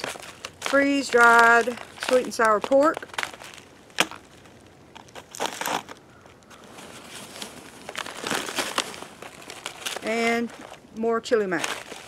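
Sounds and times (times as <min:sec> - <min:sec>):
foil pouches crinkling: 0:00.0 - 0:12.0.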